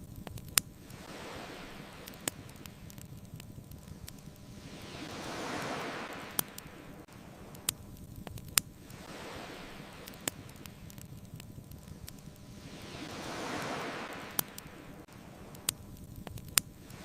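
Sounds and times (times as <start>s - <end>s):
bonfire popping and crackling: 0.0s - 17.0s
ocean waves washing ashore: 0.4s - 17.0s.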